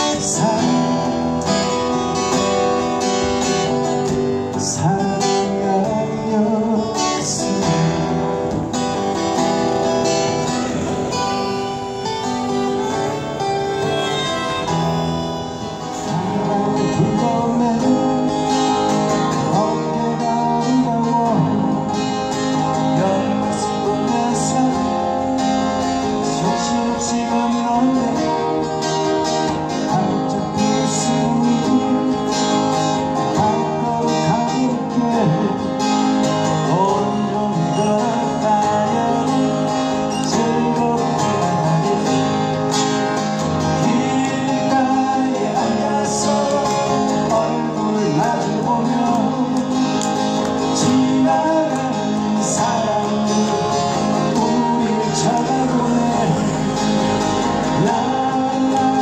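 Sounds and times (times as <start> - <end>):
acoustic guitars strumming: 0.0 - 59.0
man singing: 0.0 - 59.0.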